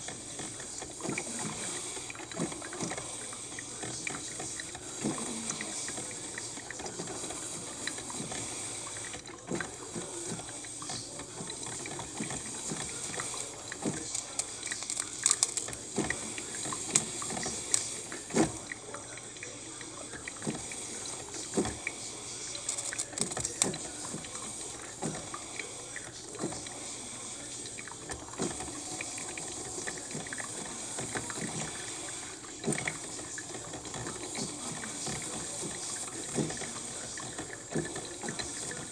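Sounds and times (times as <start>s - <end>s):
coffee maker gurgling pops: 0.0s - 38.9s
hot water hissing: 0.0s - 38.9s.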